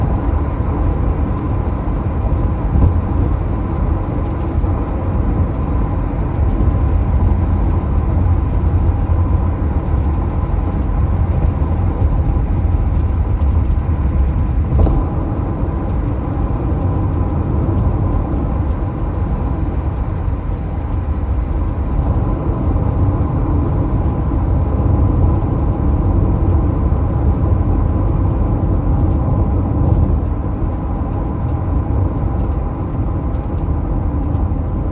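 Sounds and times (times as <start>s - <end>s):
car low rumble: 0.0s - 34.9s
car rattling: 0.0s - 34.9s.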